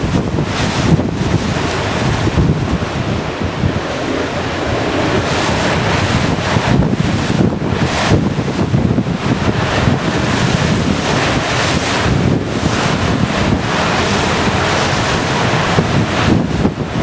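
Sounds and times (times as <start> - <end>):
rough sea waves breaking: 0.0 - 17.0
wind buffeting microphone: 0.0 - 17.0.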